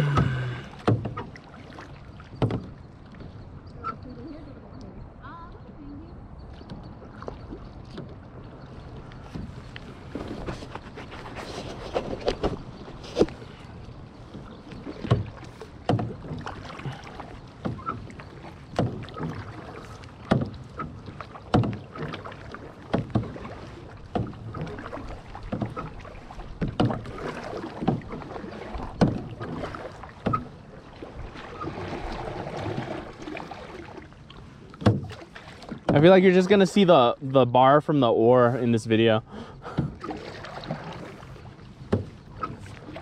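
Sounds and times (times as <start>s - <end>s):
paddle splashing: 0.0s - 43.0s
water noise: 0.0s - 43.0s.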